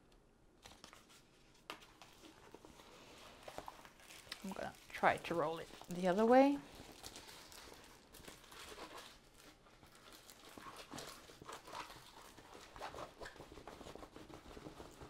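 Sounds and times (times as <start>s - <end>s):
canvas rustling and crinkling: 1.5s - 15.0s.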